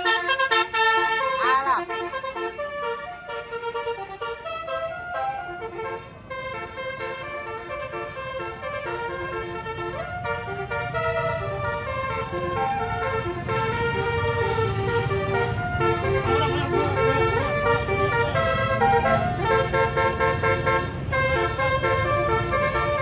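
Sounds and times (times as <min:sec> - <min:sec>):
bus air horn playing melody: 0:00.0 - 0:23.0
bus engine rumble: 0:00.0 - 0:23.0.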